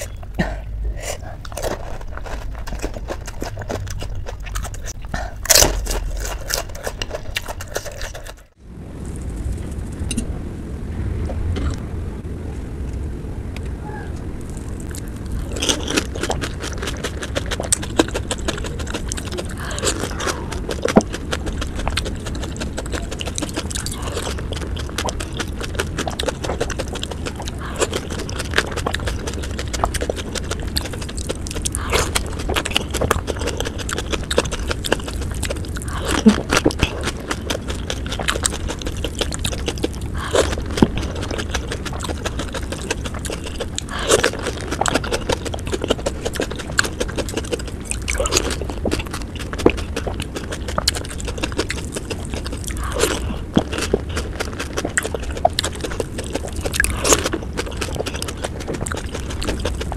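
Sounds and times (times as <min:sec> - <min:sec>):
steady low hum: 0:00.0 - 0:59.9
crisp shells crunching wetly: 0:01.2 - 0:08.6, 0:14.4 - 0:59.9.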